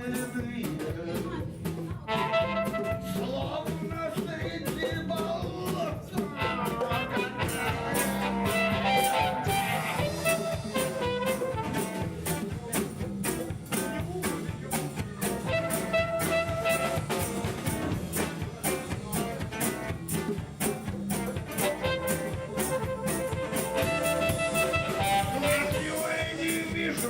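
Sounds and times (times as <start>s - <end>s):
drums steady beat: 0.0s - 27.0s
guitar: 0.0s - 27.0s.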